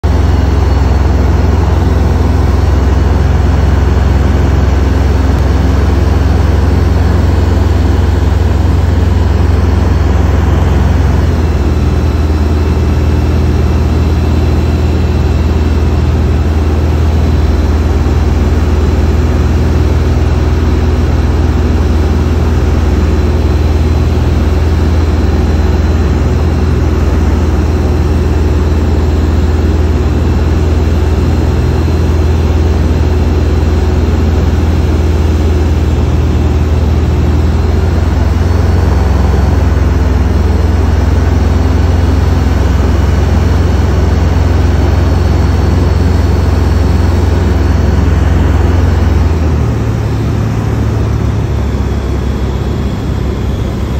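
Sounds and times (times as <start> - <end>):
aircraft engines rumbling: 0.0 - 53.9.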